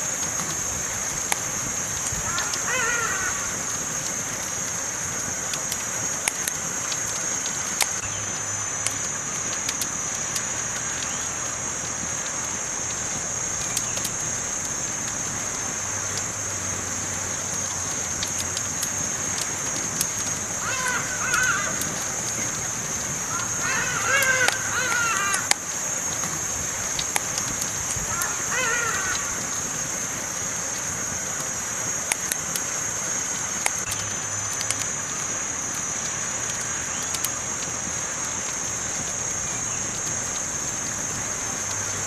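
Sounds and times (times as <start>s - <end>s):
campfire crackling: 0.0s - 42.0s.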